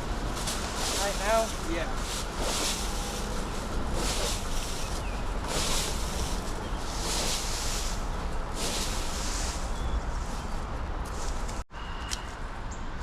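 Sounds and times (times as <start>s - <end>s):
rhythmic rustling swishes: 0.0s - 11.6s.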